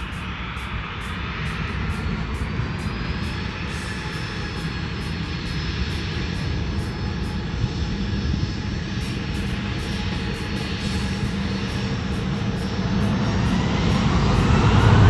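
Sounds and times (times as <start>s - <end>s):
jet engines rushing and whining: 0.0s - 15.0s.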